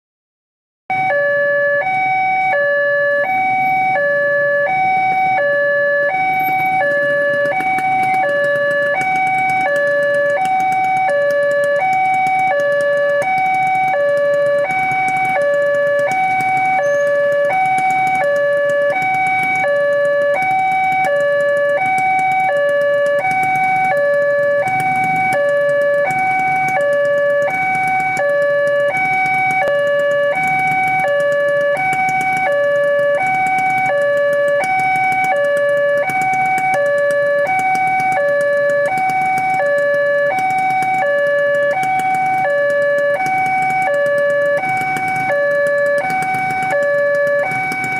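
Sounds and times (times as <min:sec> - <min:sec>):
two-tone level crossing alarm: 0:00.9 - 0:47.9.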